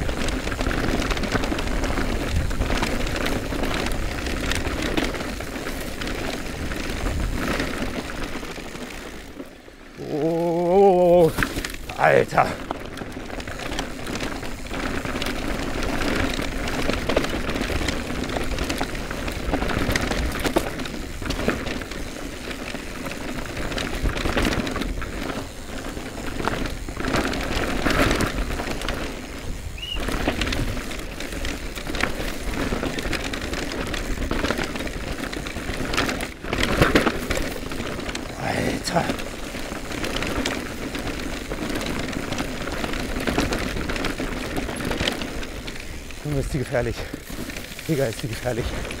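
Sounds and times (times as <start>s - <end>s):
bike clattering over bumps: 0.0s - 49.0s
tyres crunching over dirt and stones: 0.0s - 49.0s.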